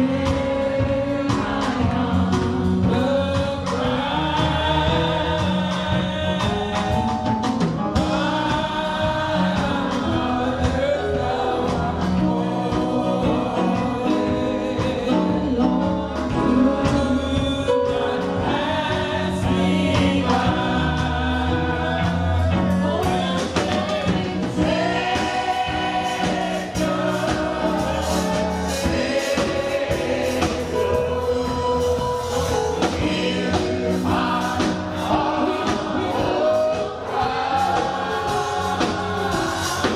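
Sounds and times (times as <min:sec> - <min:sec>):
band with bass and drums: 0:00.0 - 0:39.9
choir singing gospel: 0:00.0 - 0:39.9.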